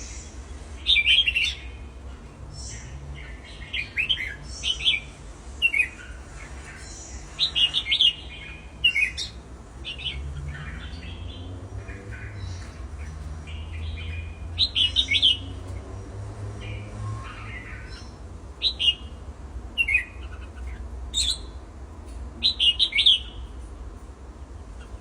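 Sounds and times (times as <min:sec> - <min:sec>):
cage birds chirping: 0:00.0 - 0:25.0.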